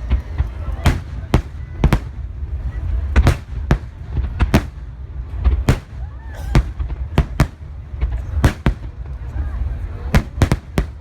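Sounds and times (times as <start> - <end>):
continuous low rumble: 0.0 - 11.0
fireworks bangs: 0.0 - 11.0.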